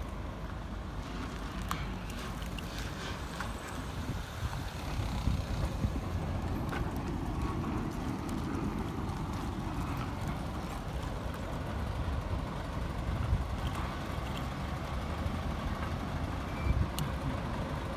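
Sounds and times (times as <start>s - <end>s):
truck diesel engine running: 0.0s - 17.9s.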